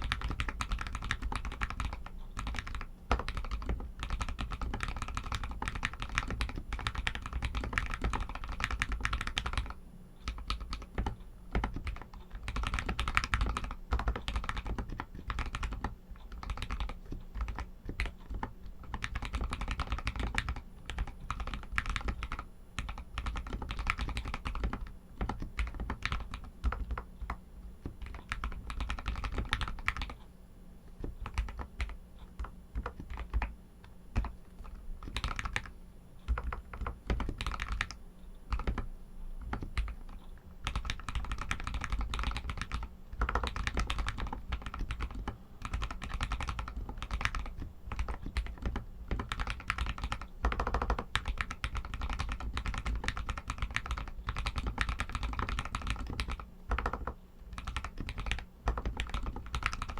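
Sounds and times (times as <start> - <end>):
mechanical keyboard typing: 0.0 - 30.2, 31.0 - 59.9.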